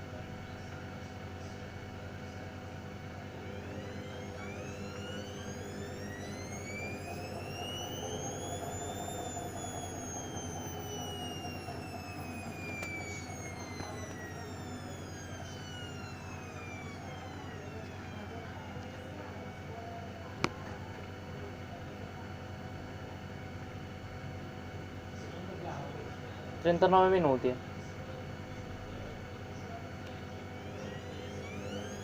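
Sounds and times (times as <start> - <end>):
steady low hum: 0.0 - 32.0
washing machine motor whining: 0.0 - 32.0.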